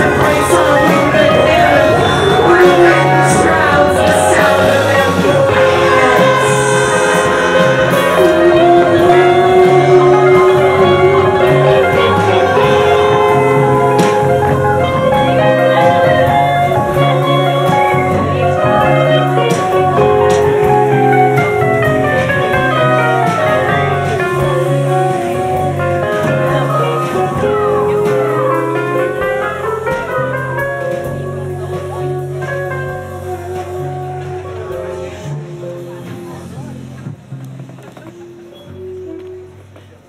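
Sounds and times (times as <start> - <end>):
live band playing: 0.0 - 40.0.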